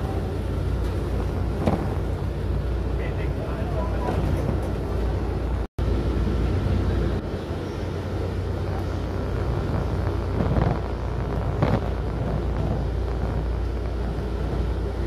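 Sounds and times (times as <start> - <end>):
vehicle cabin rumble: 0.0 - 15.0.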